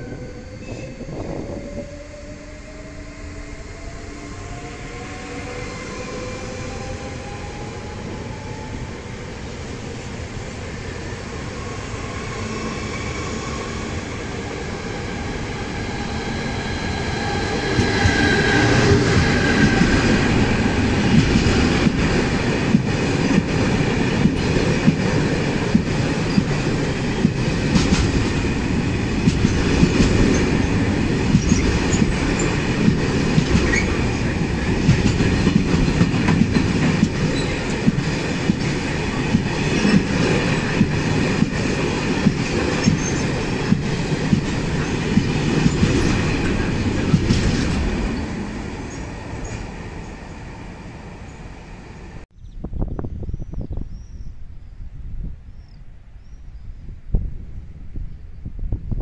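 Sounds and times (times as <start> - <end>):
rumble of train wheels on rail: 0.0 - 52.3.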